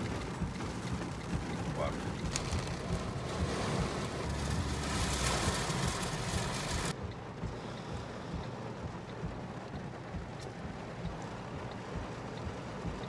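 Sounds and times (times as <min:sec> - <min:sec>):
heavy rain on a car: 0:00.0 - 0:13.0
low rumble of car interior: 0:00.0 - 0:13.0.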